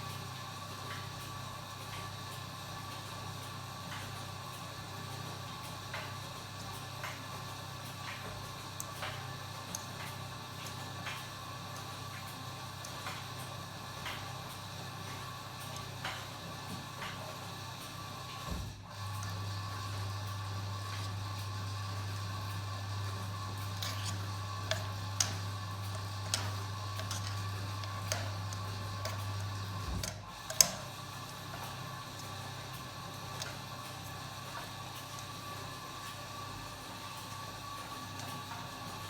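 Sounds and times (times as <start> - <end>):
washing machine motor hum: 0.0 - 39.0.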